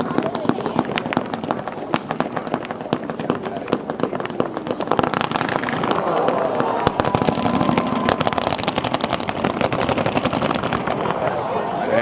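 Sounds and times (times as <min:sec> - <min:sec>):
fireworks barrage: 0:00.0 - 0:12.0.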